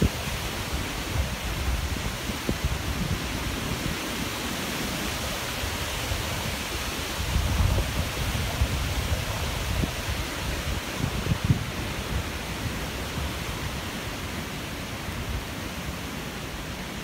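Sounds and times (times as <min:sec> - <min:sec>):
wind buffeting microphone: 0:00.0 - 0:15.6
wind rushing through trees: 0:00.0 - 0:17.0.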